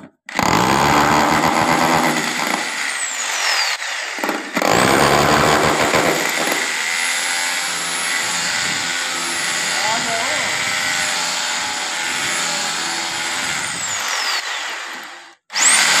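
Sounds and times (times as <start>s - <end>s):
electric drill whining: 0.3s - 16.0s.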